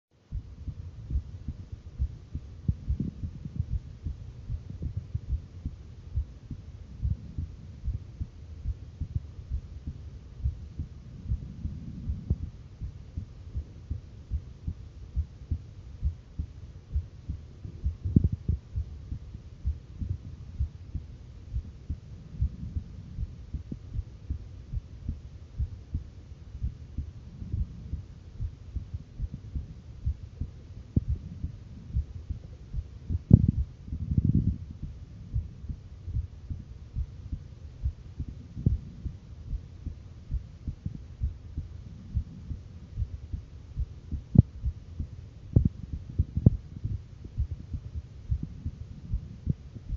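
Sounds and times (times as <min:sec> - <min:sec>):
faint low hum: 0:00.1 - 0:49.9
heartbeat thumps: 0:00.2 - 0:49.9.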